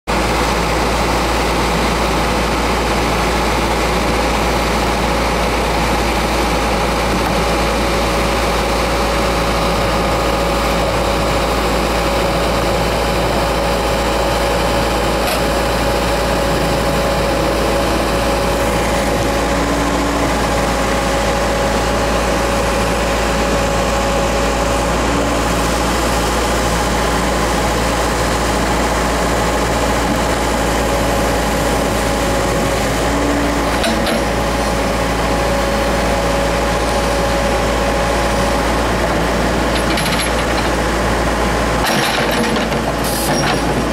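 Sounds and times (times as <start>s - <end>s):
diesel engine running: 0.1s - 43.9s.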